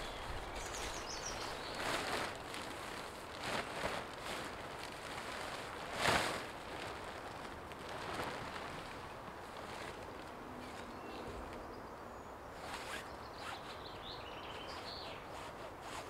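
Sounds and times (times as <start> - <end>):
tarp rustling and flapping: 0.0 - 11.7, 12.6 - 16.0.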